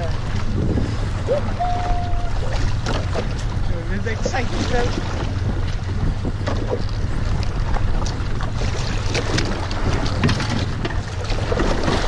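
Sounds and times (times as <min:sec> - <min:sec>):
boat engine humming: 0:00.0 - 0:12.0
water splashes: 0:00.0 - 0:12.0
wind buffeting microphone: 0:00.0 - 0:12.0.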